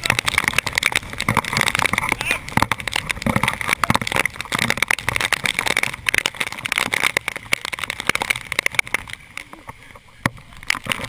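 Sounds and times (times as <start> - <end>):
rain drops hitting microphone: 0.0 - 11.0.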